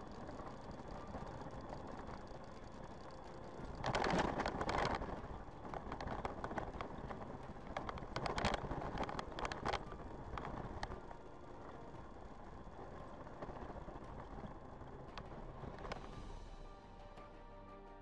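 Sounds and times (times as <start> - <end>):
rapid clicking and clattering: 0.0 - 16.3
car interior road noise: 0.0 - 16.6.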